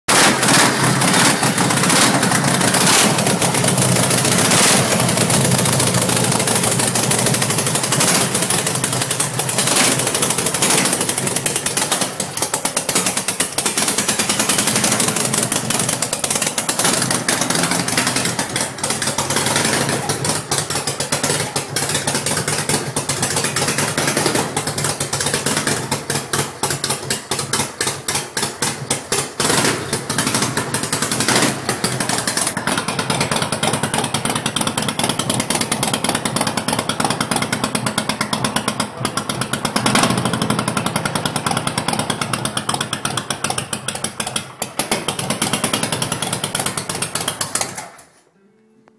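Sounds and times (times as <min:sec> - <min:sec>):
motorcycle engine revving and idling: 0:00.0 - 0:48.2.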